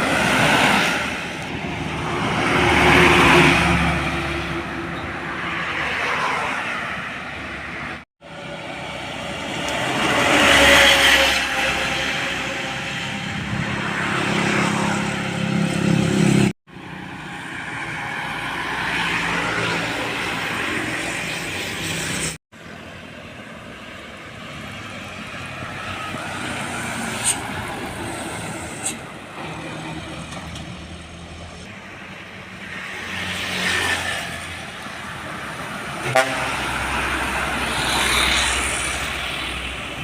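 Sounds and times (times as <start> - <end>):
heavy vehicles driving past: 0.0 - 40.0.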